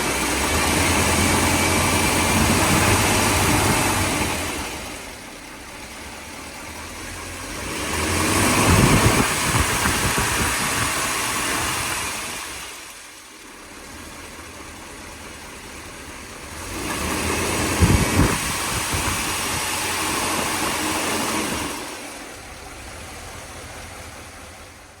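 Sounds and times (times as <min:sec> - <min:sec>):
car engine idling and revving: 0:00.0 - 0:25.0
engine knocking: 0:00.0 - 0:25.0.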